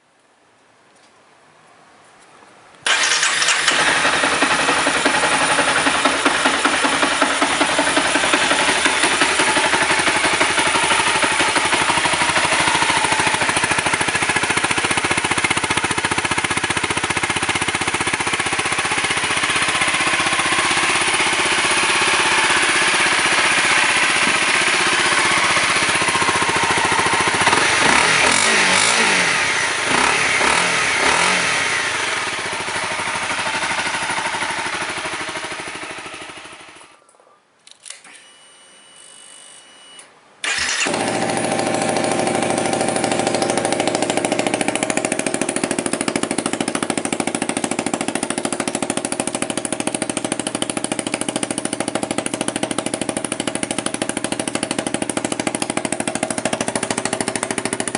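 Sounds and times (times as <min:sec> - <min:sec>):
motorcycle engine idling: 0:02.9 - 0:37.0, 0:40.4 - 0:57.9
motorcycle engine revving: 0:02.9 - 0:37.0, 0:40.4 - 0:57.9.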